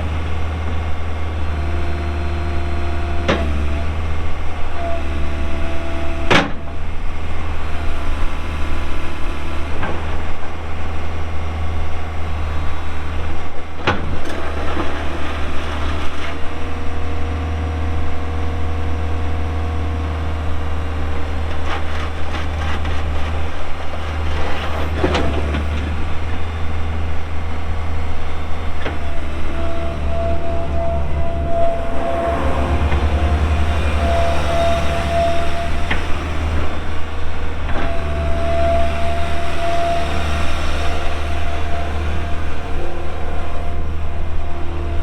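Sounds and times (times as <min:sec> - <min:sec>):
excavator diesel engine drone: 0:00.0 - 0:45.0
hydraulic whine: 0:00.0 - 0:45.0.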